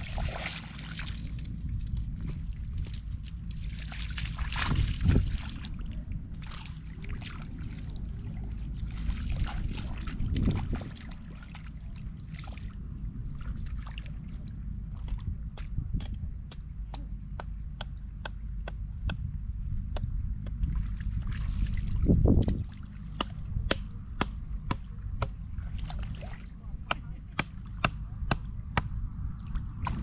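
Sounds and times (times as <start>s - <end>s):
water splashing and sloshing: 0.0s - 19.2s, 20.0s - 28.5s, 29.3s - 30.0s
steady low rumble: 0.0s - 30.0s.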